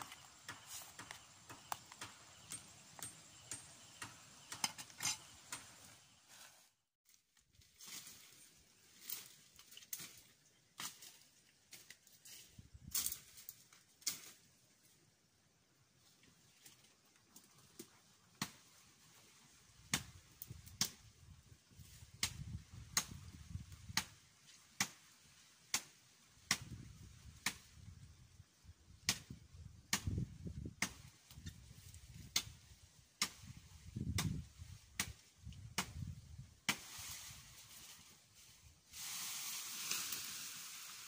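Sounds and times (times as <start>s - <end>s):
leaves and branches rustling: 0.0s - 15.0s, 15.9s - 41.0s.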